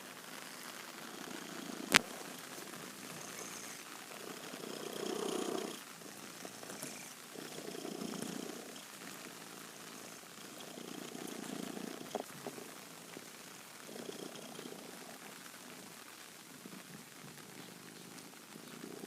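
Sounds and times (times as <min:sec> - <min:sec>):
rain hissing: 0:00.0 - 0:19.0
cat purring: 0:00.8 - 0:19.0.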